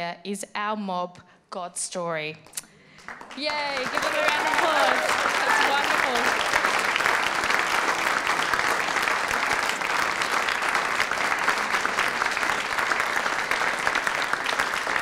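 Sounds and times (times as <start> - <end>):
audience applauding: 2.9 - 15.0.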